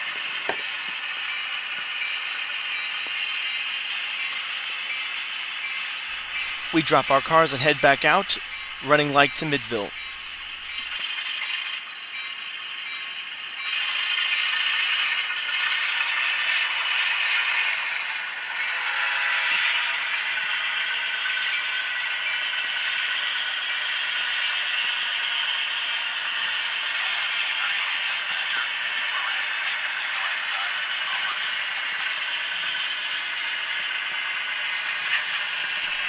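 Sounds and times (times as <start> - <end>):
model train diesel engine sound: 0.0 - 36.0
model train running gear: 0.0 - 36.0.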